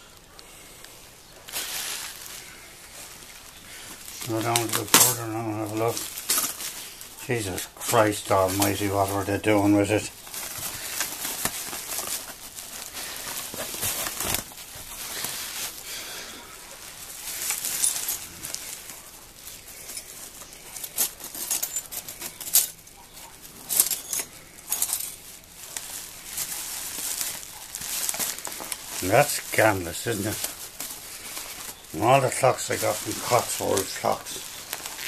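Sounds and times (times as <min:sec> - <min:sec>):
plastic and bubble wrap rustling: 0:00.0 - 0:35.0.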